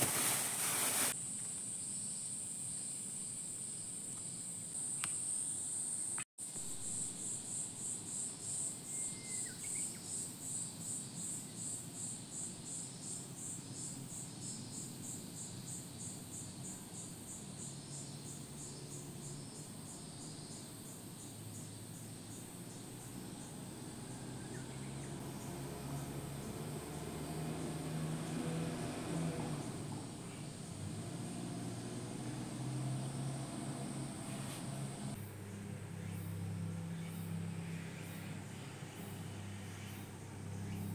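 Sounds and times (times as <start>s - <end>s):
insects calling in pulsing drone: 1.3s - 40.9s.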